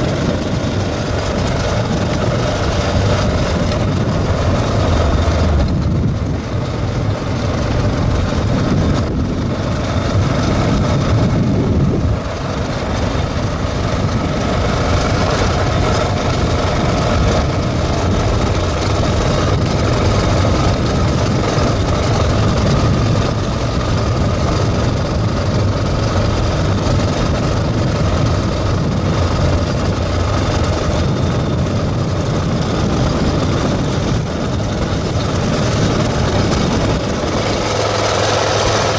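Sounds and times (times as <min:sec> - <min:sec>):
motorcycle engine running: 0:00.0 - 0:38.9
wind rushing: 0:00.0 - 0:38.9.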